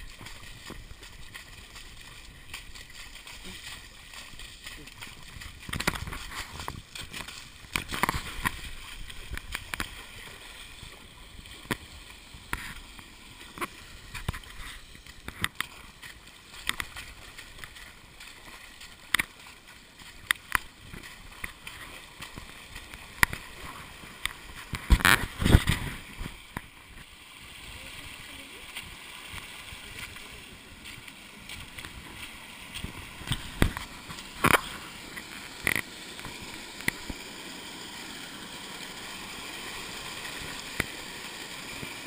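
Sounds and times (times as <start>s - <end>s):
splashing in water: 0.0s - 37.7s
stream rushing: 0.0s - 42.0s.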